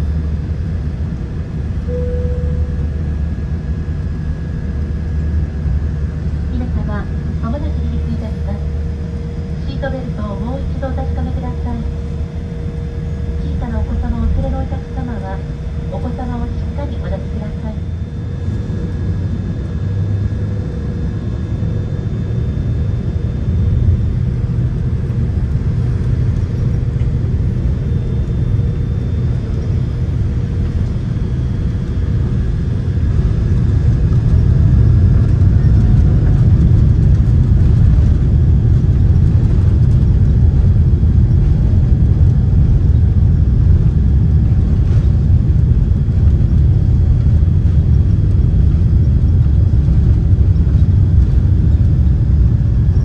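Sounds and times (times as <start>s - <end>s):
jet engine rumble in cabin: 0.0s - 53.0s.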